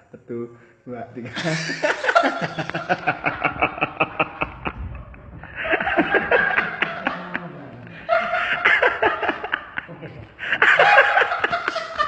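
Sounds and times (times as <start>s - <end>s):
people laughing: 1.0s - 12.0s.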